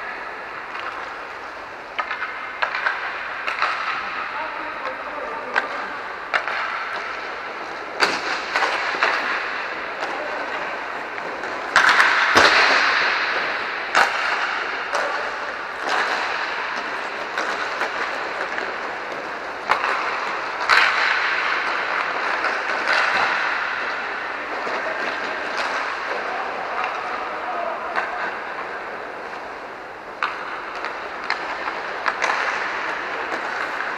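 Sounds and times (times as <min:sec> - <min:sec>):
pucks striking boards: 0:00.0 - 0:33.9
skate wheels rolling hiss: 0:00.0 - 0:33.9
sticks hitting pucks: 0:00.0 - 0:33.9.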